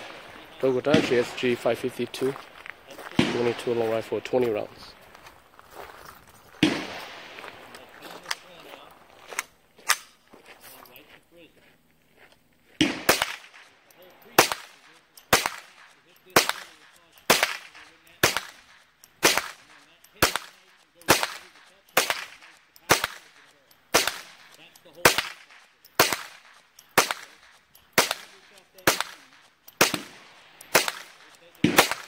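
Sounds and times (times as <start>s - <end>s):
rifle shots: 0.0s - 4.9s, 6.5s - 8.9s, 12.8s - 32.0s.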